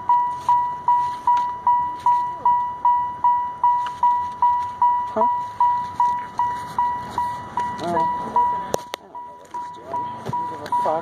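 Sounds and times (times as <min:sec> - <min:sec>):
car warning chime dinging: 0:00.0 - 0:11.0.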